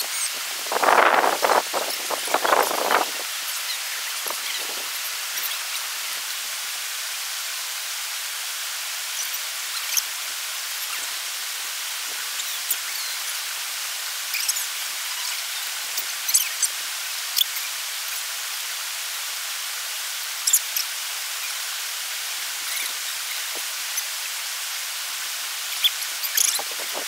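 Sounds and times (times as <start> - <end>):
rushing water hiss: 0.0 - 27.0.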